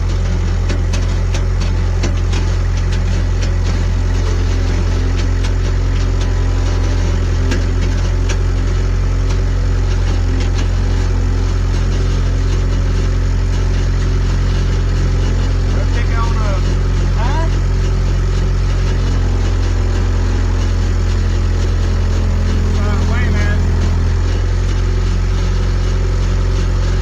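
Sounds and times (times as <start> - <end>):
heavy engine idling: 0.0 - 27.0.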